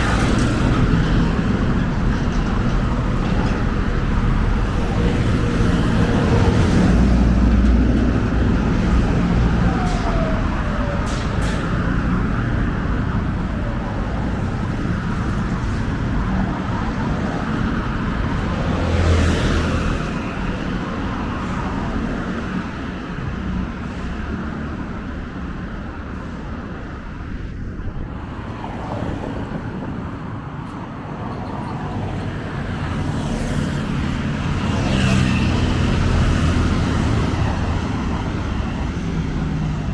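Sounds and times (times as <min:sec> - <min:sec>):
road traffic: 0:00.0 - 0:39.9.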